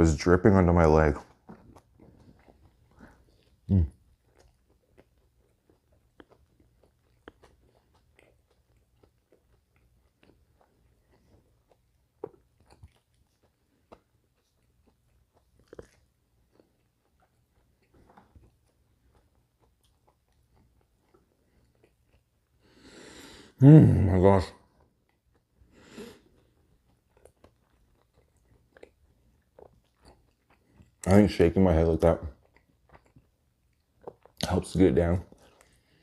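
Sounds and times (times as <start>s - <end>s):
chewing and mouth sounds: 0.2s - 36.0s.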